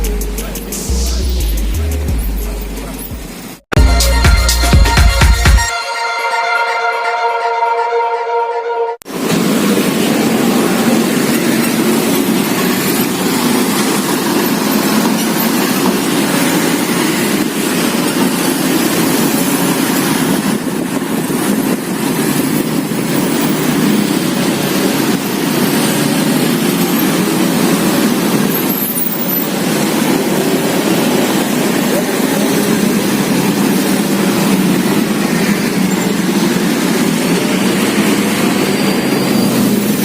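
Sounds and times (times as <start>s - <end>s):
passing vehicles rumble: 0.0s - 3.8s, 9.0s - 40.0s.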